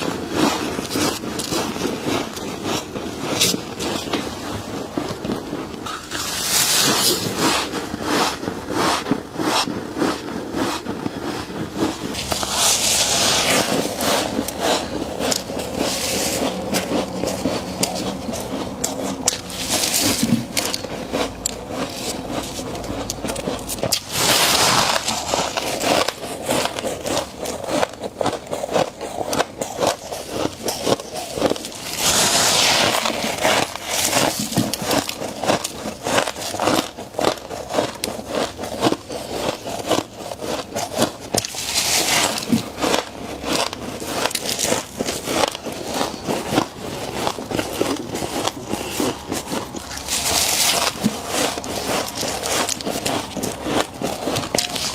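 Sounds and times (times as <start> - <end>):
frost crunching: 0.0 - 54.9
rasping scrapes: 0.0 - 54.9.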